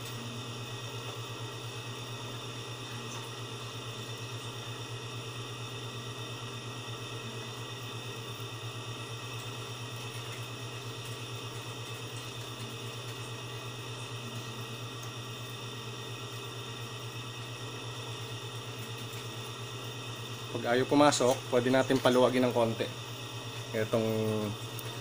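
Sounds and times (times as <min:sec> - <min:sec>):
low machine hum with flutter: 0:00.0 - 0:25.0.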